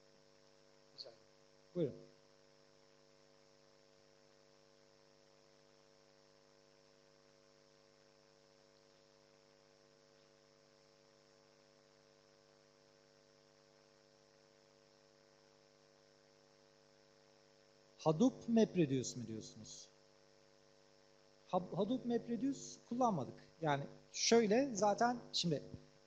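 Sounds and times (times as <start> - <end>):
faint electrical hum: 0.0 - 26.0.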